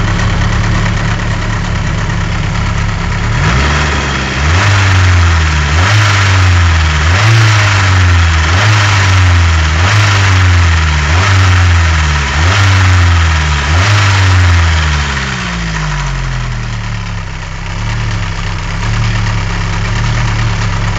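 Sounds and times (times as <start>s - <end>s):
car engine revving and idling: 0.0s - 20.9s
engine knocking: 0.0s - 20.9s.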